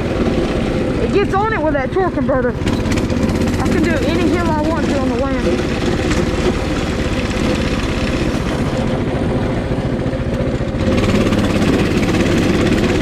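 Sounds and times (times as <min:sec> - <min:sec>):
small engine running under load: 0:00.0 - 0:13.0.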